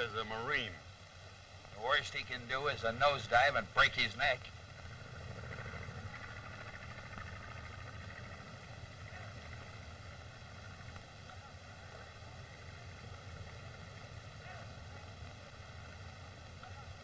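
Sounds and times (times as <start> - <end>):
film soundtrack hiss and hum: 0.0 - 17.0.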